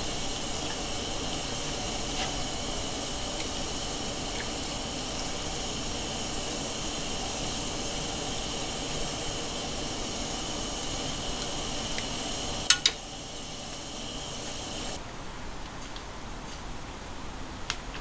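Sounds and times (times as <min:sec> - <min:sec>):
sauce simmering in a pan: 0:00.0 - 0:15.0.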